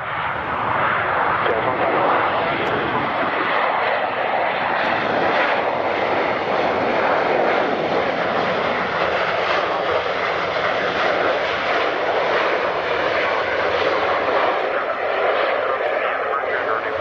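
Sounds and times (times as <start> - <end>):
jet engines running loudly: 0.0 - 17.0.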